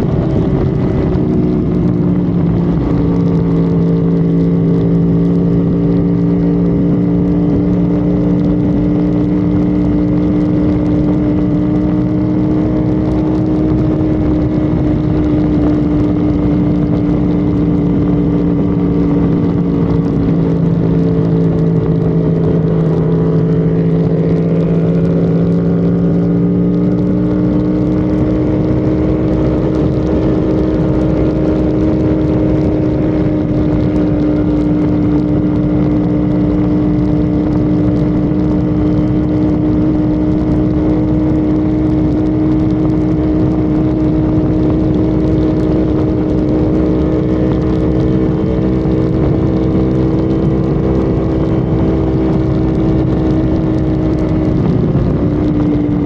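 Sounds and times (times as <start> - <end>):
car engine running hard: 0.0 - 56.0
road noise: 0.0 - 56.0
wind noise: 0.0 - 56.0.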